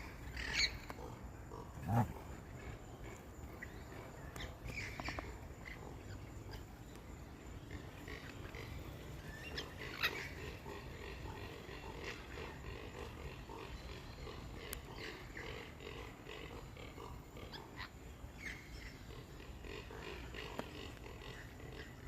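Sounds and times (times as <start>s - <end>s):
bird calls and squawks: 0.0s - 22.0s.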